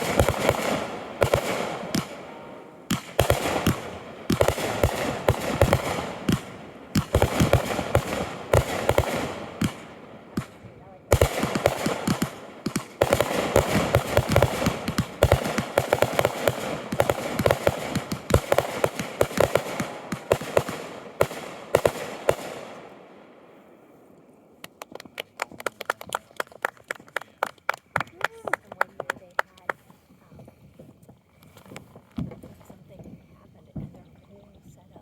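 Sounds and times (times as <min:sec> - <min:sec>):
light fireworks pops: 0:00.0 - 0:22.8, 0:24.0 - 0:34.0
fireworks bangs and crackles: 0:00.0 - 0:23.5, 0:28.3 - 0:34.2.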